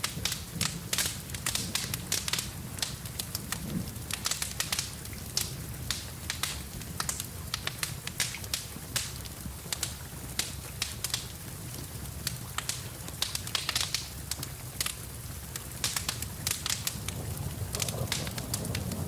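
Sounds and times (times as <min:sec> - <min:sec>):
fireplace wood fire crackling: 0:00.0 - 0:19.0
rain falling: 0:00.0 - 0:19.0.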